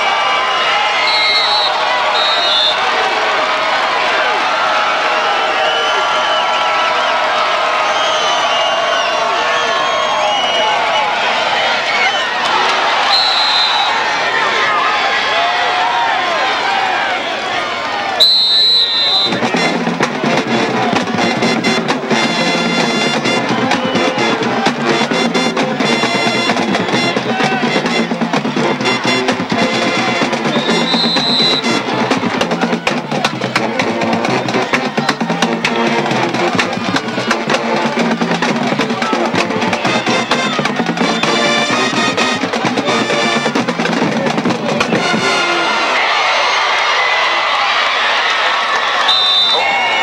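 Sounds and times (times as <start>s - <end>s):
marching band drums and brass: 0.0s - 8.8s, 12.4s - 14.1s, 18.2s - 47.1s, 48.9s - 50.0s
crowd noise: 0.0s - 50.0s.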